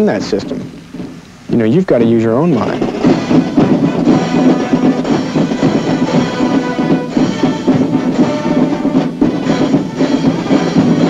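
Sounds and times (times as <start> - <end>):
military band music with drums: 0.0 - 11.0.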